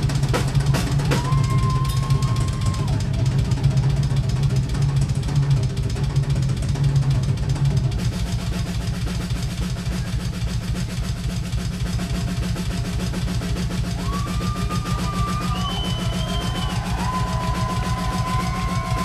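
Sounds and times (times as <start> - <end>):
rock drum solo: 0.0 - 19.0.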